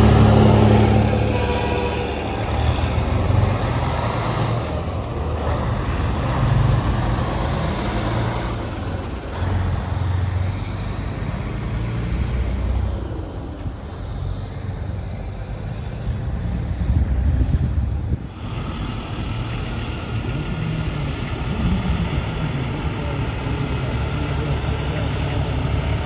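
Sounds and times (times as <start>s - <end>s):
truck diesel engine pulling away: 0.0s - 26.0s.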